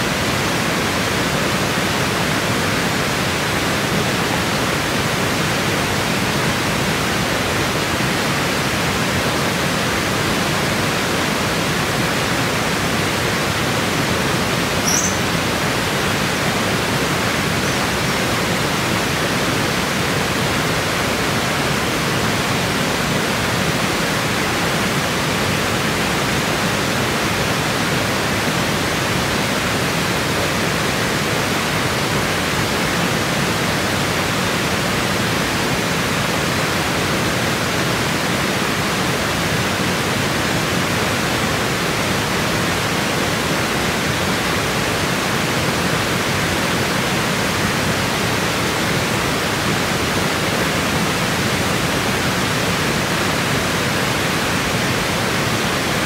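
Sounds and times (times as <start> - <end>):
water rushing through rapids: 0.0 - 56.0.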